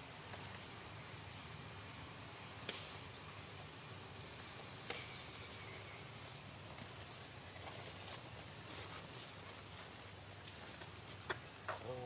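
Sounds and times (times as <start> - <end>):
low forest background noise: 0.0 - 12.0.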